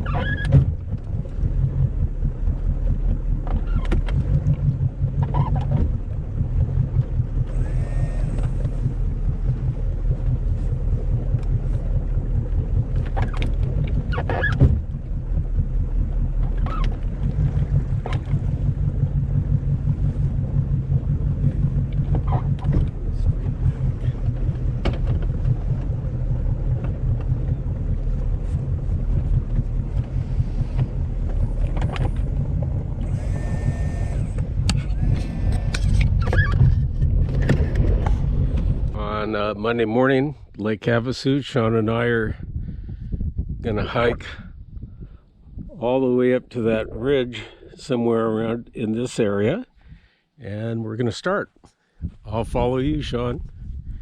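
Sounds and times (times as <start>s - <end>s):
wind on microphone: 0.0s - 50.1s, 52.0s - 54.0s
boat engine running: 0.0s - 50.8s, 52.0s - 54.0s.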